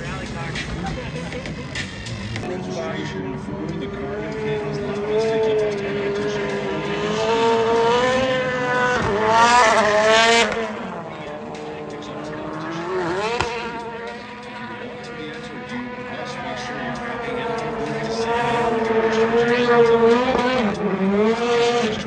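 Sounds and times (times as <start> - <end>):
car engine revving hard: 0.0 - 22.0.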